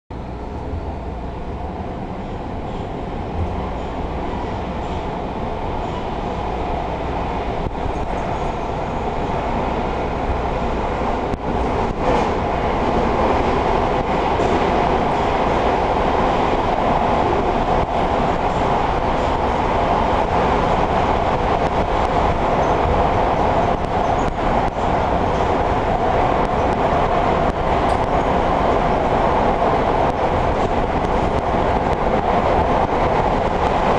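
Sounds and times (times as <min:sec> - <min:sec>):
subway train interior rumble: 0:00.1 - 0:33.9.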